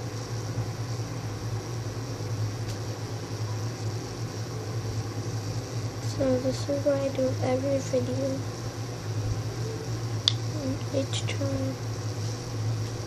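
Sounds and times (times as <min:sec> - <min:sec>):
fan running with hum and hiss: 0:00.0 - 0:13.0.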